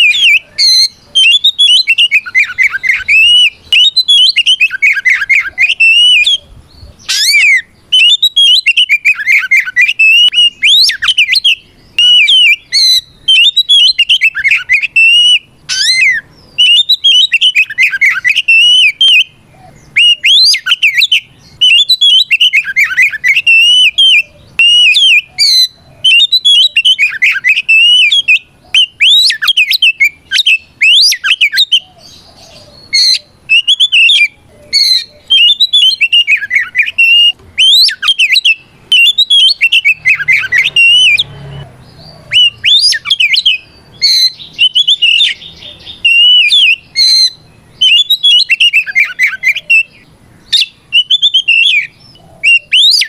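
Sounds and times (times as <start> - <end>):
bird singing rapid whistles: 0.0 - 53.0.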